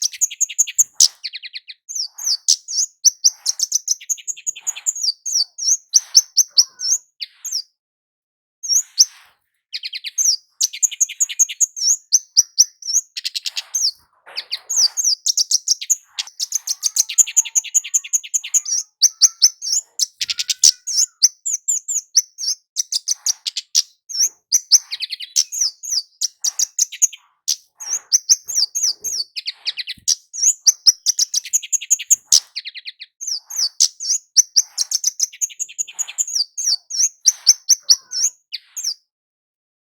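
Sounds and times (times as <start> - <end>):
bird's high sharp ticking calls: 0.0 - 7.7, 8.6 - 39.0.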